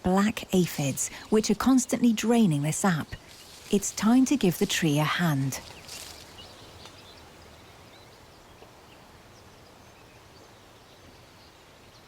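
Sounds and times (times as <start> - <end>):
low background hiss: 0.0 - 12.0
distant bird chirps: 0.6 - 12.0.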